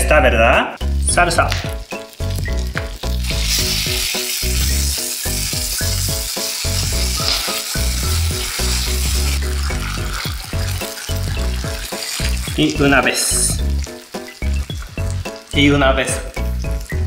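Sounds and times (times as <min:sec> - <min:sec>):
background music with bass: 0:00.0 - 0:17.0
sauce hissing and bubbling: 0:00.8 - 0:17.0
food sizzling on griddle: 0:01.5 - 0:17.0.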